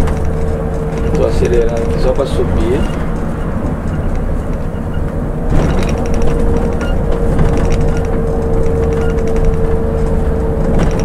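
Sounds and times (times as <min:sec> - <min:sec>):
diesel engine rumbling: 0:00.0 - 0:11.0
steady hum: 0:00.0 - 0:11.0.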